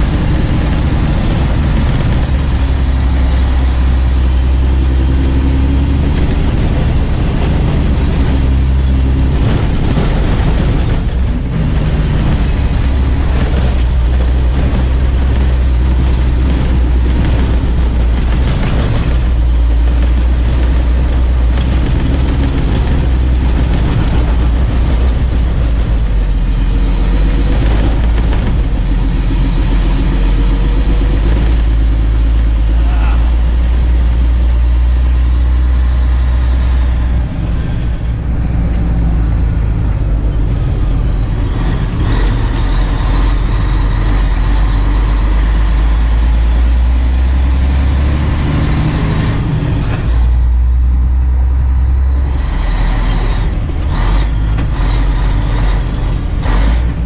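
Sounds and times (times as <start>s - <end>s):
heavy machinery engine rumbling: 0.0s - 57.0s.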